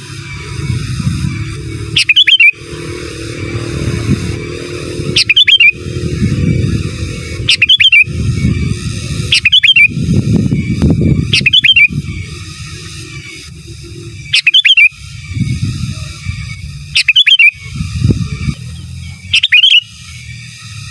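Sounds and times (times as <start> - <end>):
bulbul calling: 0.0 - 20.9
low rumbling noise: 0.0 - 20.9.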